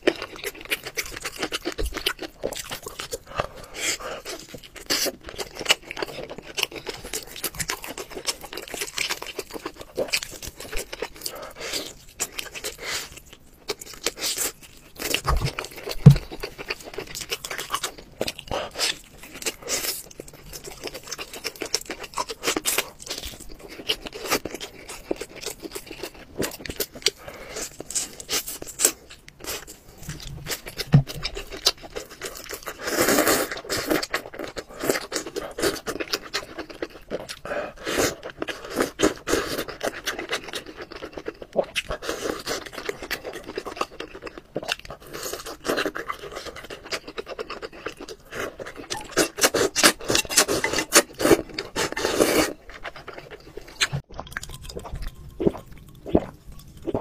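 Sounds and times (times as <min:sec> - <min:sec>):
crab shell crunching and chewing: 0:00.0 - 0:57.0.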